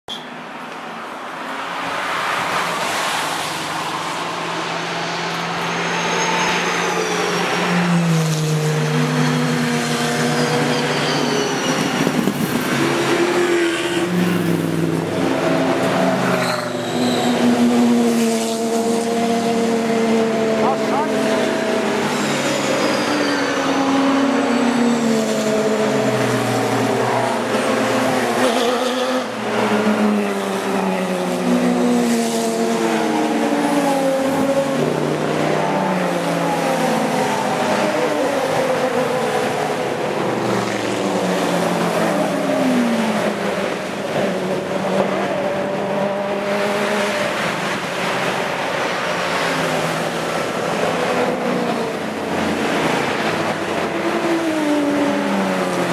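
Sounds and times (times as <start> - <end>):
race cars accelerating past: 1.6 - 55.9.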